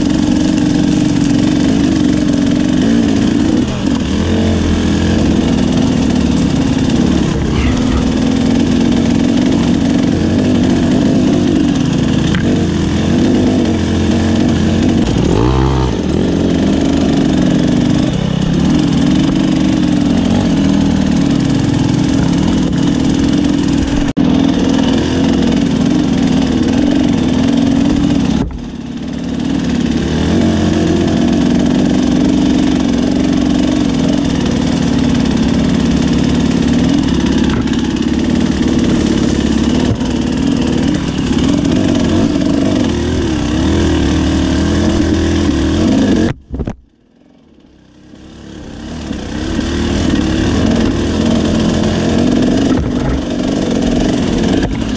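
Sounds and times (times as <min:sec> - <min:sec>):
dirt bike engine revving: 0:00.0 - 0:46.7, 0:47.5 - 0:54.9.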